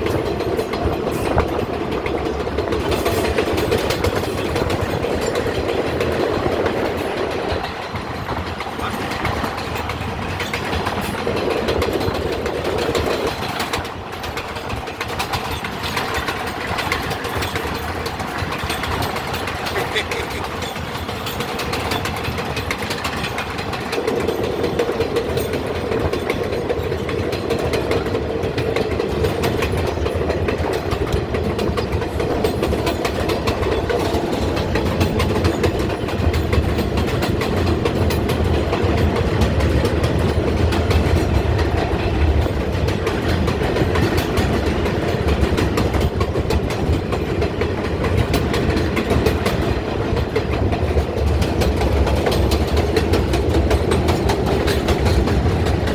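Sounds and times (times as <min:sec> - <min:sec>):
subway train rumble: 0:00.0 - 0:55.9
wheels clicking over rails: 0:00.0 - 0:55.9.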